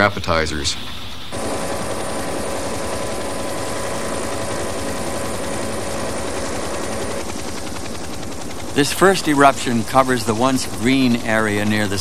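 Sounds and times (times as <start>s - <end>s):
helicopter rotor beat: 0.0s - 12.0s
turbine whine: 0.0s - 12.0s.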